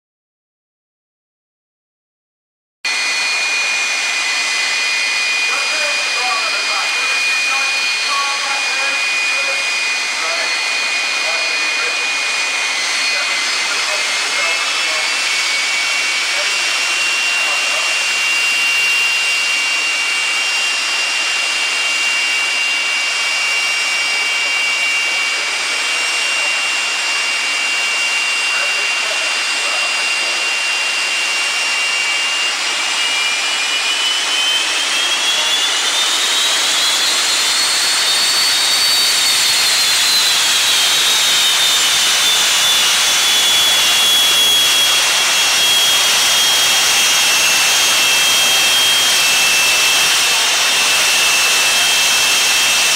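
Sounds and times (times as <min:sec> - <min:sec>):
jet engine whine and hiss: 0:02.9 - 0:52.9.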